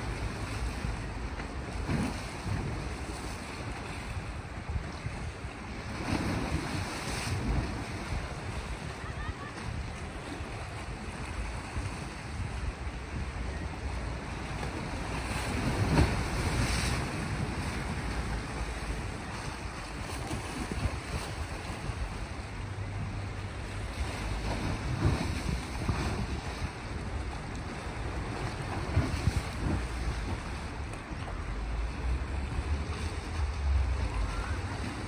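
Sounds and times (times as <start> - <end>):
waves washing against rocks: 0.0 - 35.0
wind buffeting microphone: 0.0 - 35.0.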